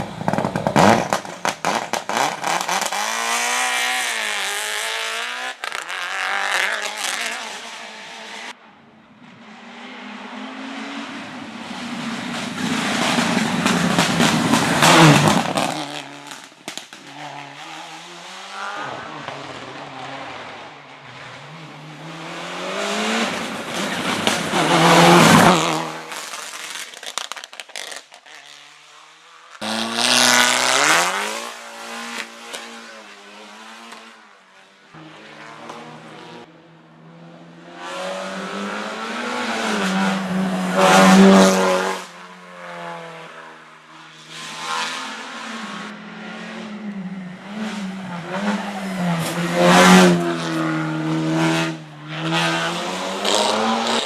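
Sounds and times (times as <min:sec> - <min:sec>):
race car engines revving past: 0:00.0 - 0:26.9, 0:29.6 - 0:54.0.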